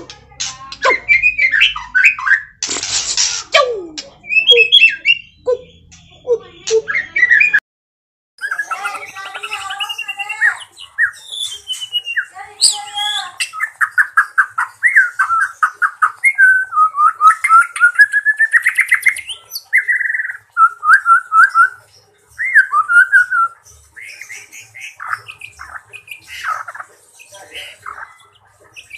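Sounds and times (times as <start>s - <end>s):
bird singing whistled trills: 0.8s - 2.6s, 4.2s - 7.6s, 8.4s - 28.9s.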